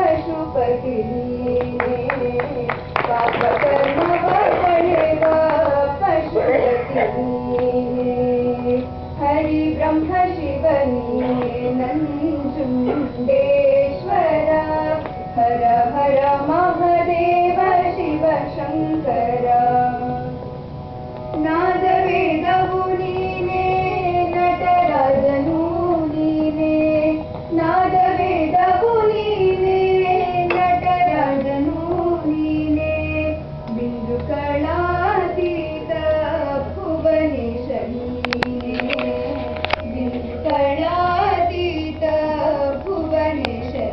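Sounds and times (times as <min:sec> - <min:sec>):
woman singing devotional song: 0:00.0 - 0:20.4, 0:21.2 - 0:43.9.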